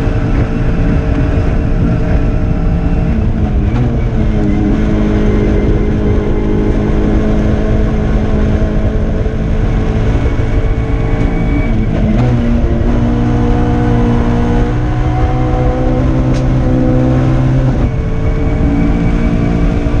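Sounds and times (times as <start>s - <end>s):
car engine running under load: 0.0s - 20.0s.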